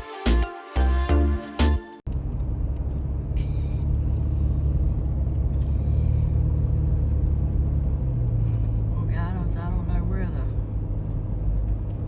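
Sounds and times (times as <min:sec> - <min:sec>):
road noise: 0:00.1 - 0:12.0
vehicle engine rumble: 0:02.0 - 0:12.0.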